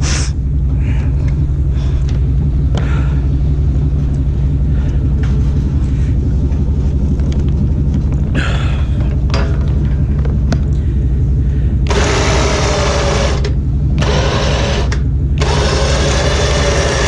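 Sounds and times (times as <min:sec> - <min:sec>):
electric winch motor whirring: 0:00.0 - 0:17.0
vehicle engine idling: 0:00.0 - 0:17.0.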